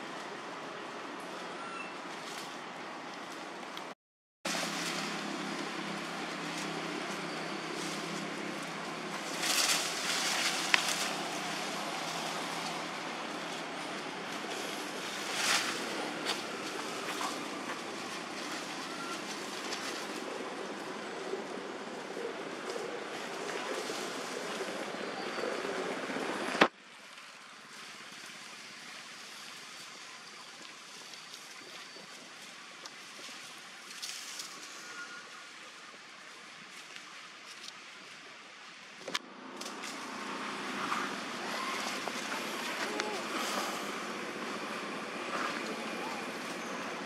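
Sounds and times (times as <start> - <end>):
leafy branches rustling: 0.0 - 47.0
steady outdoor hiss: 0.0 - 47.0.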